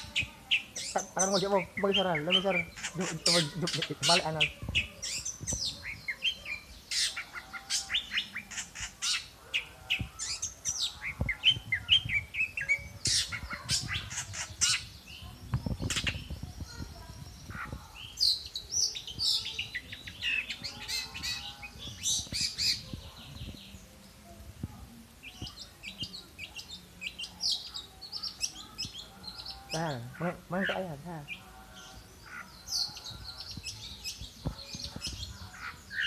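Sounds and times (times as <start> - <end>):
songbird singing: 0.0 - 36.0.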